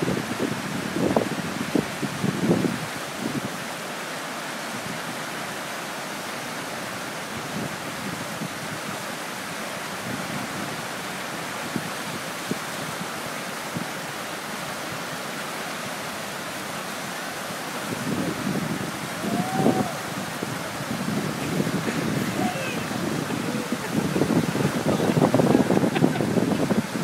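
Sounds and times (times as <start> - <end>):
river water rushing over rapids: 0.0 - 27.0.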